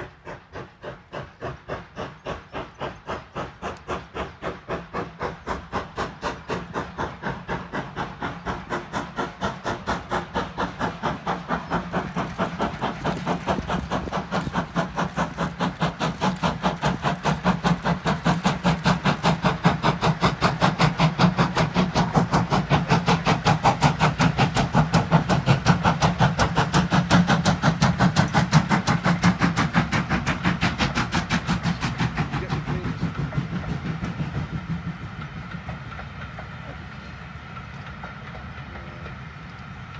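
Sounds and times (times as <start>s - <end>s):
steam locomotive exhaust beats: 0.0s - 39.9s.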